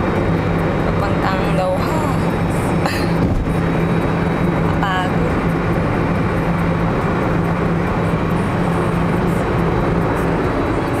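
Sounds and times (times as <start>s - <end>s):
road and wind noise in car: 0.0s - 11.0s.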